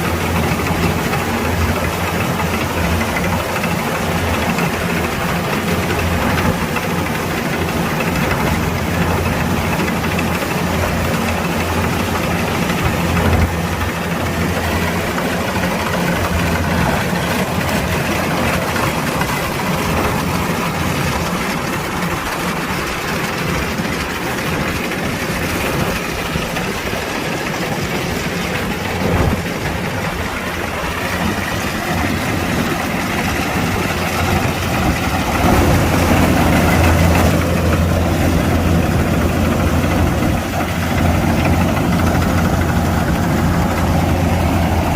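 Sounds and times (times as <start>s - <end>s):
combine harvester engine running: 0.0s - 44.9s.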